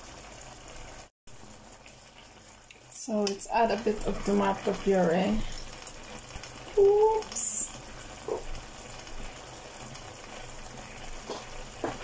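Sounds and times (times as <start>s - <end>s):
sauce bubbling and sizzling in pan: 0.0s - 12.0s.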